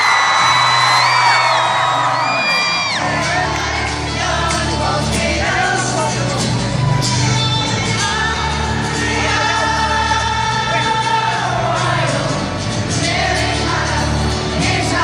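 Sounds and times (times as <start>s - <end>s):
crowd voices: 0.0s - 15.0s
live acoustic rock band: 0.0s - 15.0s
lead singer singing: 1.2s - 15.0s.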